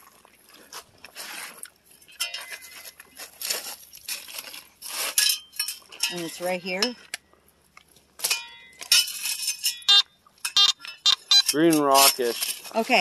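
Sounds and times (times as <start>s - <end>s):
pebbles crunching and scraping: 0.0s - 10.5s, 11.4s - 13.0s.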